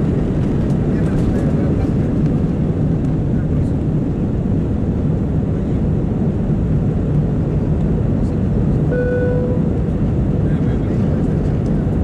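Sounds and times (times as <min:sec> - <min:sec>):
airliner engine and airflow rumble: 0:00.0 - 0:12.0.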